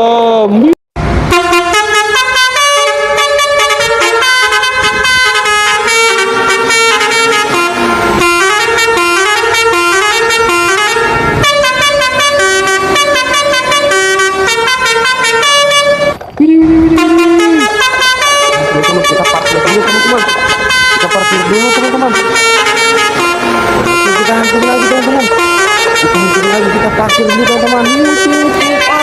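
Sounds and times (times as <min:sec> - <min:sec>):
truck horn playing melody: 0:01.0 - 0:16.2, 0:16.8 - 0:29.0.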